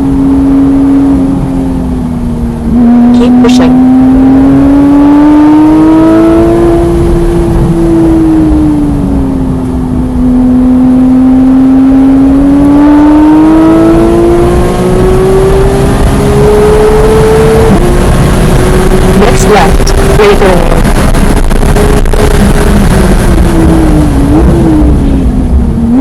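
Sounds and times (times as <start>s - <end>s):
car engine pulling hard: 0.0s - 26.0s
road noise inside car: 0.0s - 26.0s.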